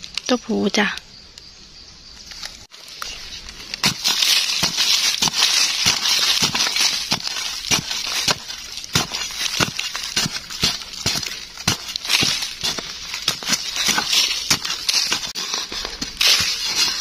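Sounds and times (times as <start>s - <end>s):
crunching and scraping of earth: 0.0s - 17.0s
sharp digging strikes: 2.8s - 17.0s.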